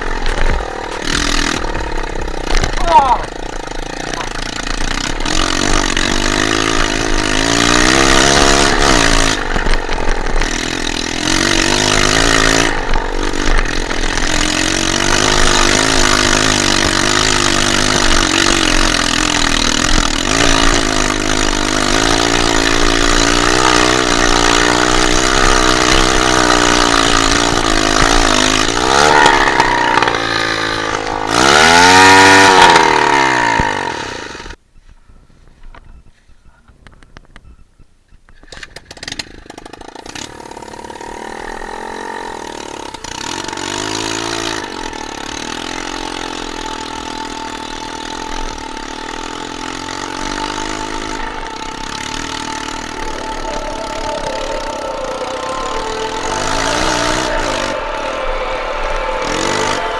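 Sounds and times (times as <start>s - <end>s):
dirt bike engine revving: 0.0s - 34.6s, 38.8s - 59.9s.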